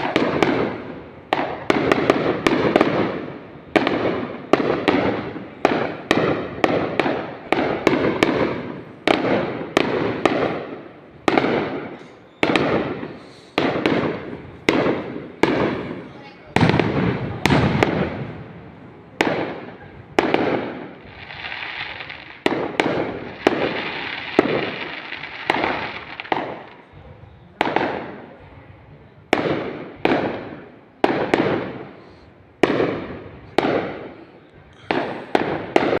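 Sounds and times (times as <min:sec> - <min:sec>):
fireworks bangs: 0:00.0 - 0:36.0
rumbling echo: 0:00.0 - 0:36.0.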